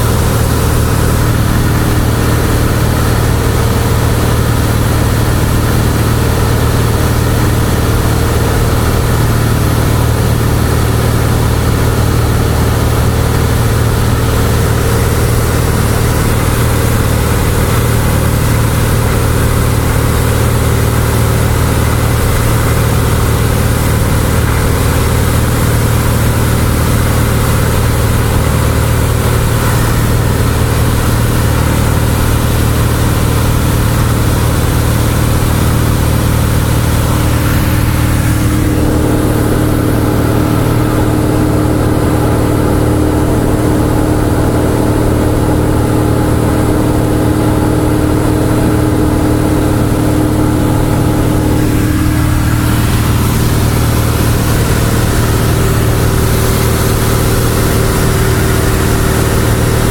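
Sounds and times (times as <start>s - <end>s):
light aircraft engine drone: 0.0s - 59.9s
steady hum: 0.0s - 59.9s.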